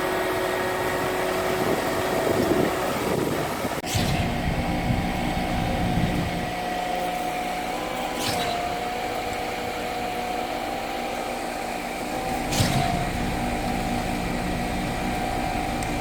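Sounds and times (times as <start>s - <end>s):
concrete pump engine drone: 0.0s - 16.0s.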